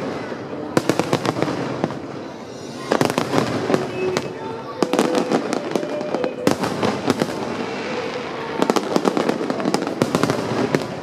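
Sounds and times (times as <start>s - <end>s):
fireworks crackle: 0.0s - 11.0s.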